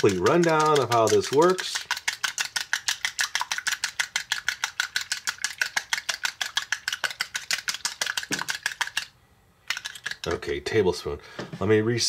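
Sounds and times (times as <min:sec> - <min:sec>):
metal whisk beating egg in bowl: 0:00.0 - 0:09.1, 0:09.7 - 0:10.4.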